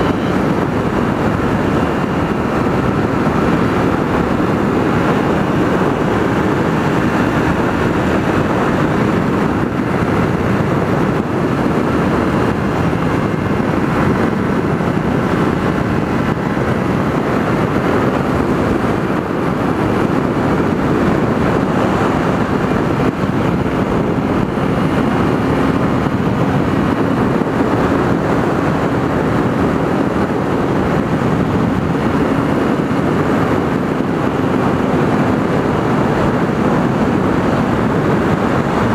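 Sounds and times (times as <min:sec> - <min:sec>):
motorcycle engine droning: 0:00.0 - 0:38.9
wind rush over microphone: 0:00.0 - 0:38.9.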